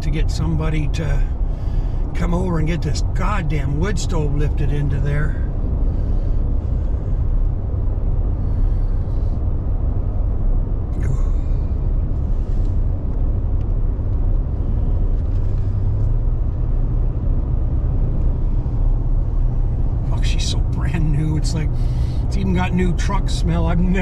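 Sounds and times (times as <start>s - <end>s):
truck engine and tyres rumbling: 0.0s - 24.0s.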